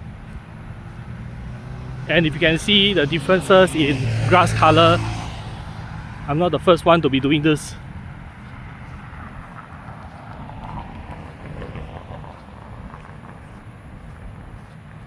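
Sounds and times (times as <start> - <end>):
distant road traffic hum: 0.0 - 15.0
footsteps on a path: 0.0 - 15.0.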